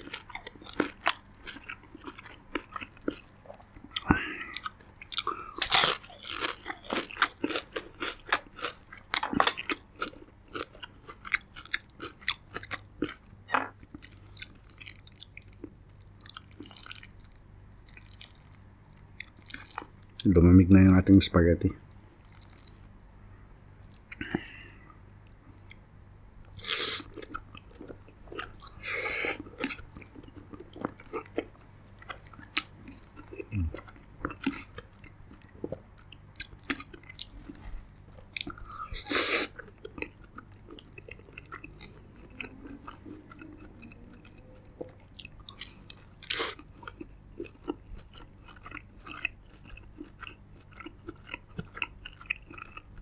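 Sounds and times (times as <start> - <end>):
close chewing with wet smacks: 0.0 - 5.4, 6.1 - 13.3, 13.9 - 20.3, 22.2 - 23.0, 27.0 - 38.7, 39.5 - 53.0.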